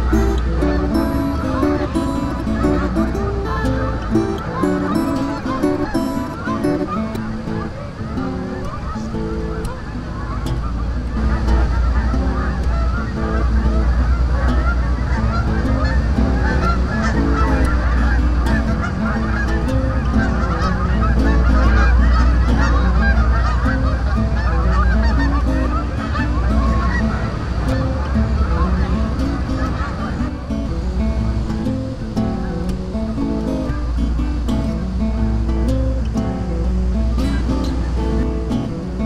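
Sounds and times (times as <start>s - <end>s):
geese honking: 0.0s - 10.5s, 11.1s - 30.6s, 37.2s - 38.8s.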